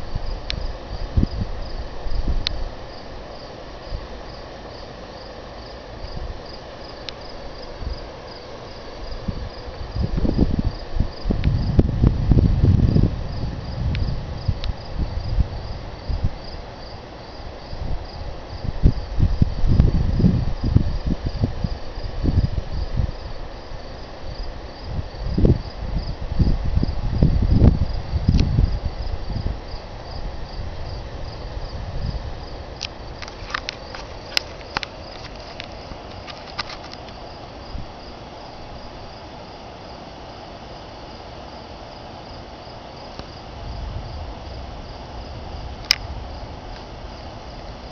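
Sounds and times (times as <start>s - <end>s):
crickets chirping: 0.0s - 47.9s
low rumbling and buffeting: 0.0s - 47.9s.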